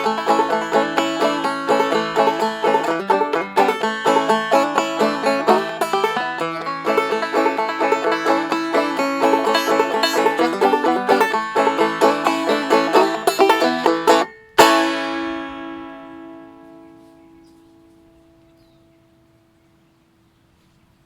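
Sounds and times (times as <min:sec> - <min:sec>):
banjo playing old-time tune: 0:00.0 - 0:17.6.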